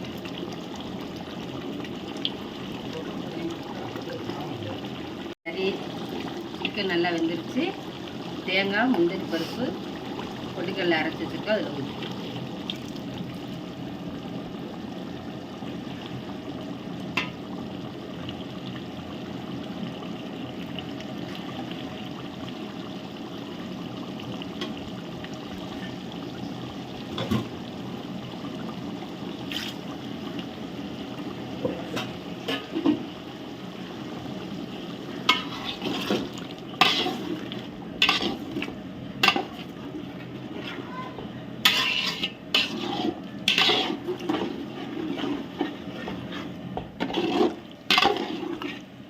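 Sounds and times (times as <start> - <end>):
pot bubbling and hissing: 0.0 - 49.0.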